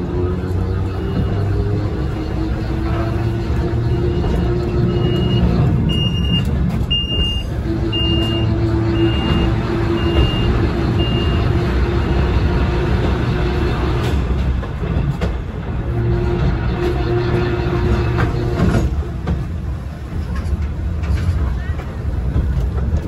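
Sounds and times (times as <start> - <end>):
electric railway car humming: 0.0 - 23.0.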